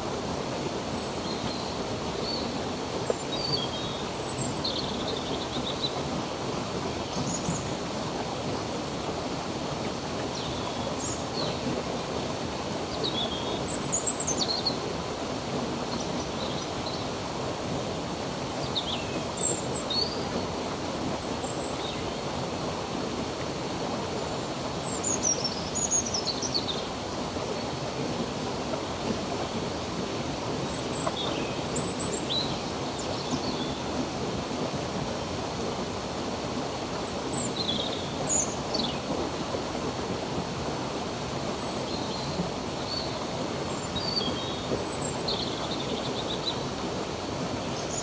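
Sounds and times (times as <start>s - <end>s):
stream flowing: 0.0s - 48.0s.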